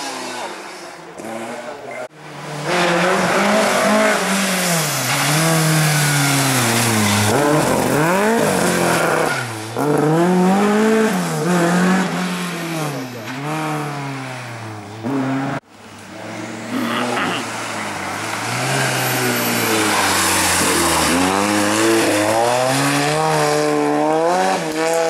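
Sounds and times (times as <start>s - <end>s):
rally car engine revving hard: 0.0s - 15.6s, 16.2s - 25.0s.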